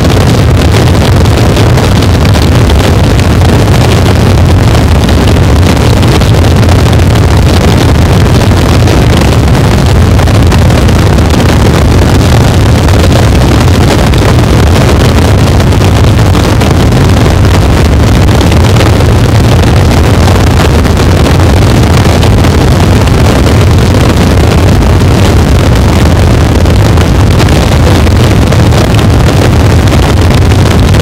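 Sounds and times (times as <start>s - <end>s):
harsh electronic noise wall: 0.0s - 31.0s.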